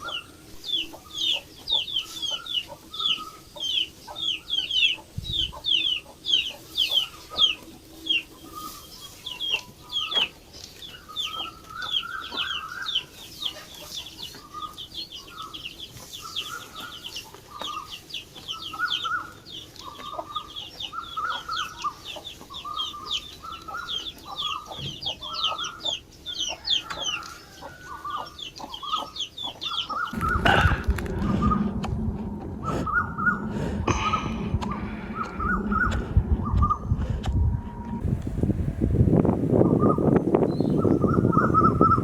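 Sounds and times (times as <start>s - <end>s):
chickens clucking: 0.0s - 38.0s
chicks peeping: 0.0s - 38.0s.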